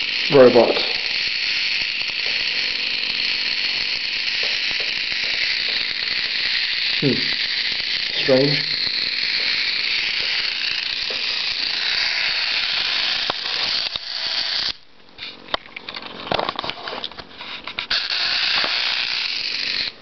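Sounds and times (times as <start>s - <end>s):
steady hiss: 0.0s - 15.4s, 17.3s - 20.0s.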